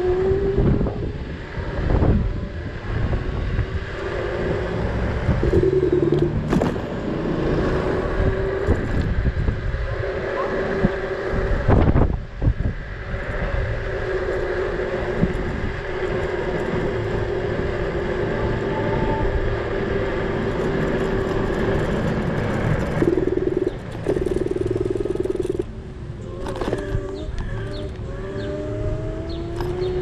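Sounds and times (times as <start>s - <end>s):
electric scooter motor whining: 0.0s - 30.0s
wind on microphone: 0.0s - 30.0s.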